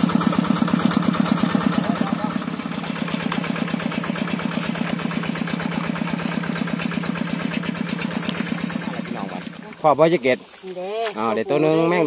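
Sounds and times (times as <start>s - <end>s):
small engine puttering: 0.0s - 12.0s.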